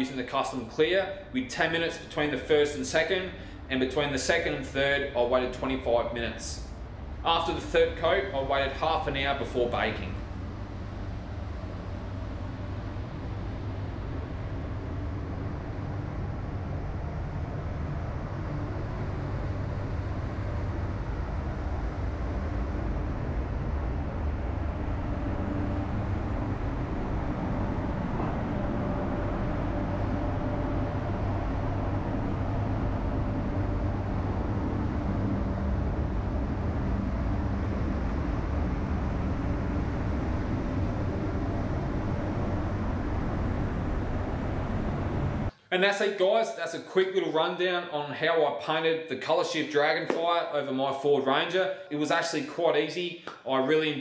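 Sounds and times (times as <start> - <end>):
faint hum: 0.0 - 54.0
ventilation air rumble: 0.0 - 54.0.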